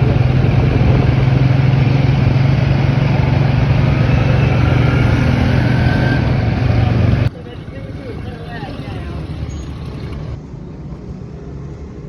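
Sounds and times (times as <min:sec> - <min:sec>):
engine running with rough drone: 0:00.0 - 0:12.0.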